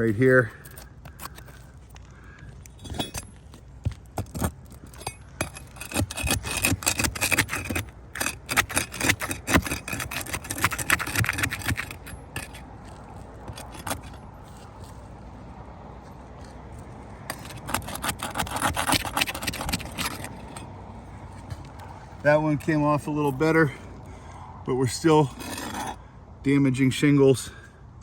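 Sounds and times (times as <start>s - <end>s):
tool scraping across shingles: 0.0s - 15.2s, 16.0s - 24.2s, 24.8s - 26.1s.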